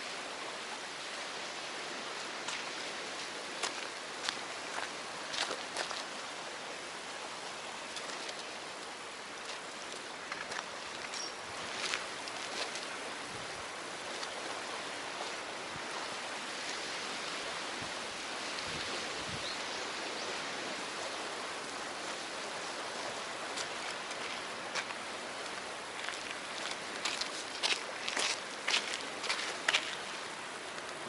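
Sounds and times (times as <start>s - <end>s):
sea water at the shore: 0.0s - 31.0s
wind: 0.0s - 31.0s.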